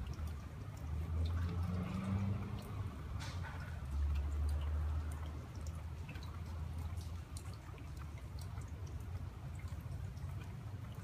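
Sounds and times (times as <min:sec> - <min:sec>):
water dripping: 0:00.0 - 0:11.0.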